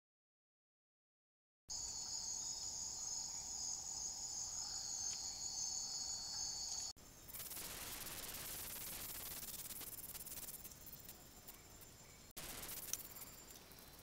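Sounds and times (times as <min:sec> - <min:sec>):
night insects chorus: 0:01.7 - 0:14.0
steady hiss: 0:01.7 - 0:14.0.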